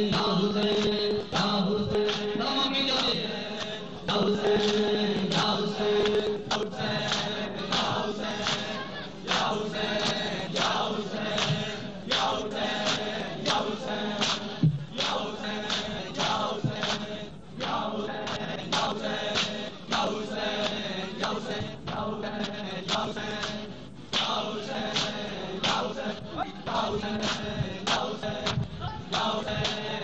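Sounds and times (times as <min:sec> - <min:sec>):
men chanting a lament: 0:00.0 - 0:30.0.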